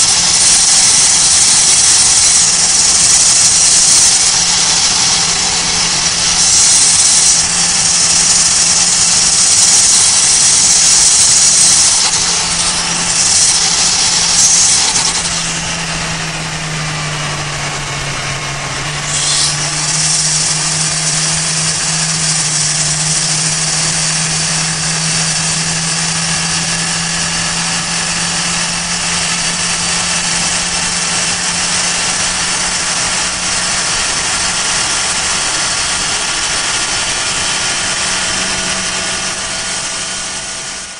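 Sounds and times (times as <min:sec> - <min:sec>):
turbo spooling hiss: 0:00.0 - 0:18.2, 0:18.8 - 0:40.9
car engine at highway speed: 0:00.0 - 0:40.9.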